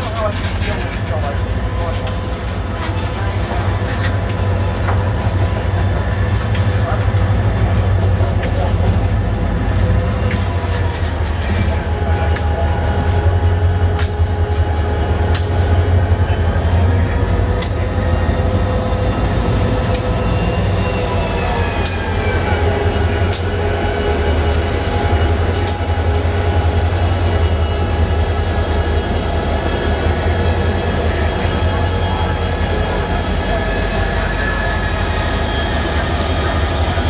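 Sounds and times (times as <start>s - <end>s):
distant locomotive rumble: 0.0s - 37.0s
whining tones: 2.2s - 37.0s.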